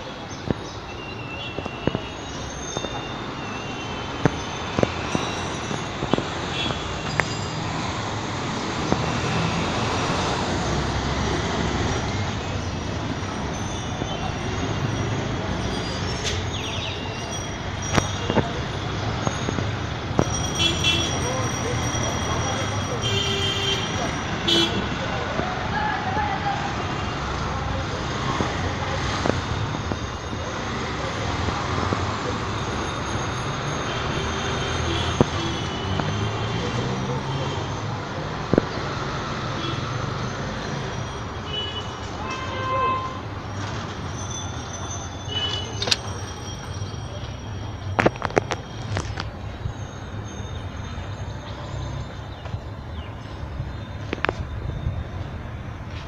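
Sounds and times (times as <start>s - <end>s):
city street traffic: 0.0s - 56.0s.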